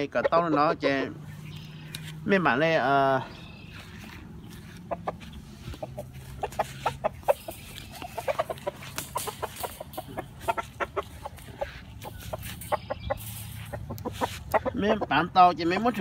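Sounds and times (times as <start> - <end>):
rooster clucking: 0.0 - 2.2, 3.6 - 16.0.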